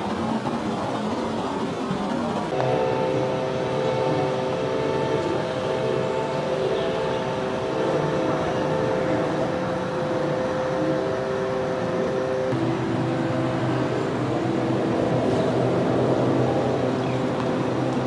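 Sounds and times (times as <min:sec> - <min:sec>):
vehicle mechanical hum: 0:00.0 - 0:18.0.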